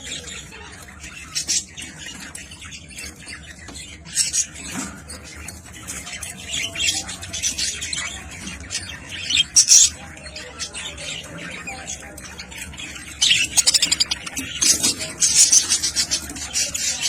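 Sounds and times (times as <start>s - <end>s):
cage birds squawking and chirping: 0.0s - 17.0s.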